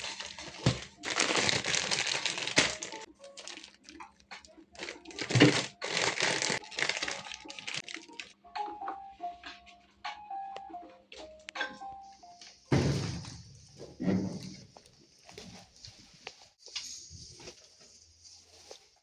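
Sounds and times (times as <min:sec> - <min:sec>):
crinkling handling noise: 0:00.0 - 0:09.8, 0:10.8 - 0:19.0.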